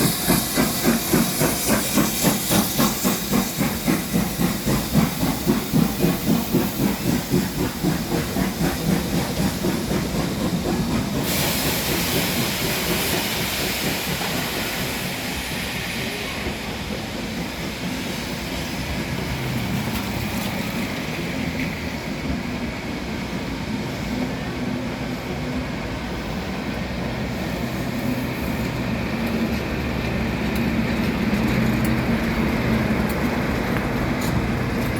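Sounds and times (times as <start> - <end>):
steam hissing: 0.0 - 34.9
steam locomotive exhaust beats: 0.0 - 34.9
train rumbling: 0.0 - 34.9.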